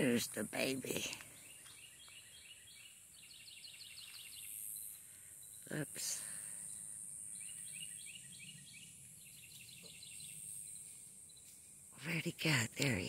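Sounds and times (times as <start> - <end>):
bird song: 0.0 - 13.0.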